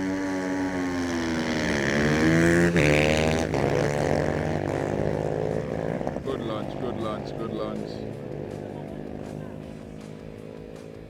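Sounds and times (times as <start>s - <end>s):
motorcycles launching at full throttle: 0.0s - 11.0s.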